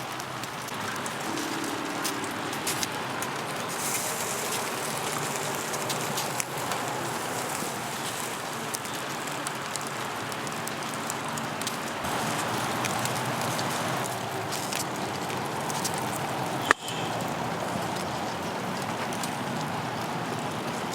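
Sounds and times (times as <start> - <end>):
rain falling: 0.0 - 20.9
small scattered ticks: 0.2 - 19.7.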